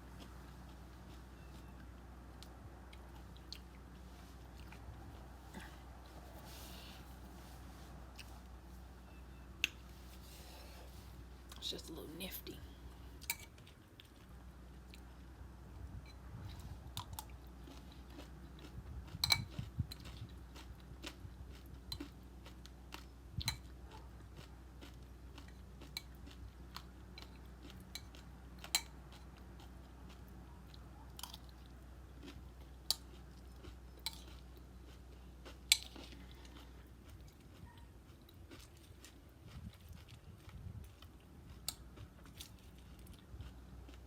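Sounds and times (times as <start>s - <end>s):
chewing crunchy cereal: 0.0s - 7.2s, 12.8s - 15.4s, 16.4s - 44.0s.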